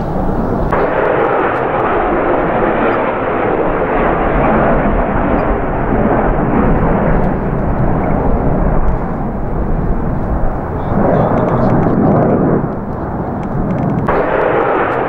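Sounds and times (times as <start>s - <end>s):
jets flying past roaring: 0.0s - 15.0s.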